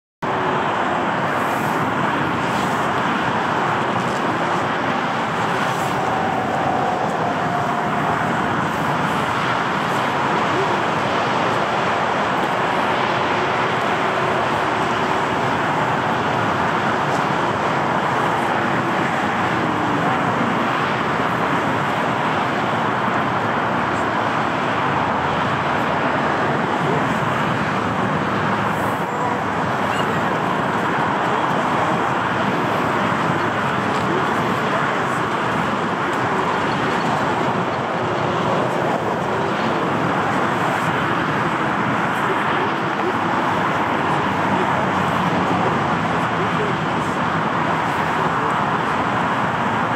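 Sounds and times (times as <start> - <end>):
jet engines taxiing: 0.2 - 49.9.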